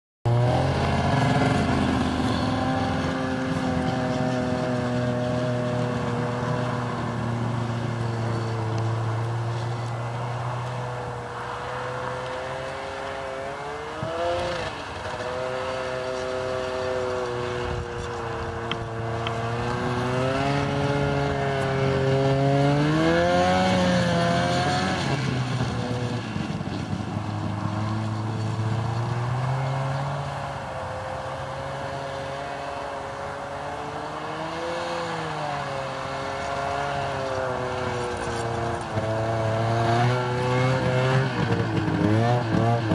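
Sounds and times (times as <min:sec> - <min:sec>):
snowmobile engine revving: 0:00.3 - 0:42.9.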